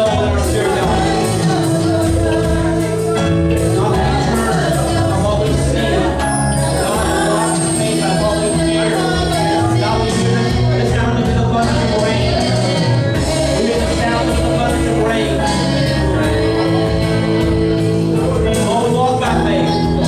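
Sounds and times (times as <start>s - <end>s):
worship music with singing: 0.0s - 20.0s.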